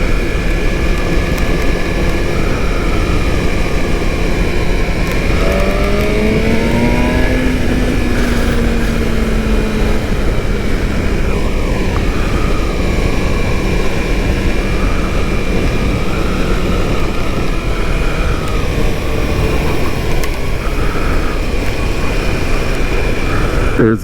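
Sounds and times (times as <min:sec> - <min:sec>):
motorcycle engine running: 0:00.0 - 0:23.8
wind rush on helmet microphone: 0:00.0 - 0:23.8.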